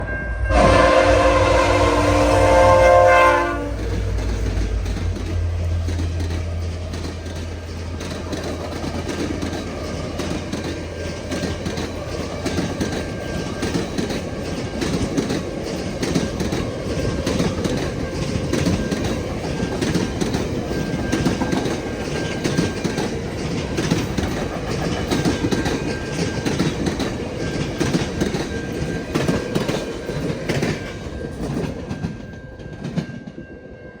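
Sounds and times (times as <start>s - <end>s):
locomotive low hum: 0.0s - 32.2s
train wheels clicking over rail joints: 3.4s - 33.4s.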